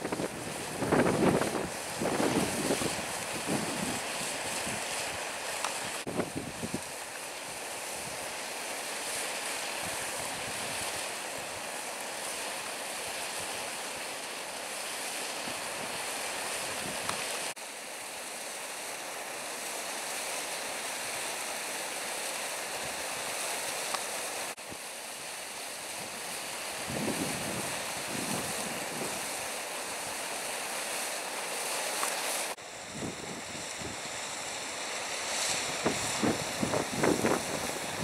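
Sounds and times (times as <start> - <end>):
water rushing over waterfall: 0.0 - 32.6.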